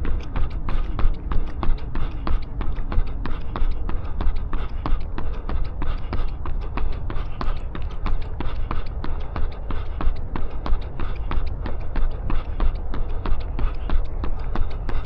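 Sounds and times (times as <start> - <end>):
runner's footsteps: 0.0 - 15.0
steady low rumble: 0.0 - 15.0.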